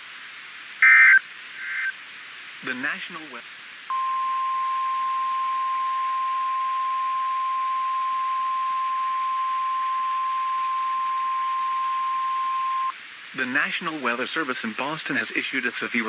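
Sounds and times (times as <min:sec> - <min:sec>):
faint radio hiss: 0:00.0 - 0:16.0.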